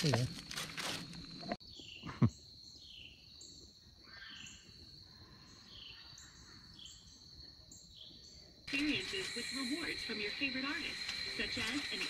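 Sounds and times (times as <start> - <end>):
insect chirps: 0.0 - 12.0
insect chorus trilling: 0.0 - 12.0.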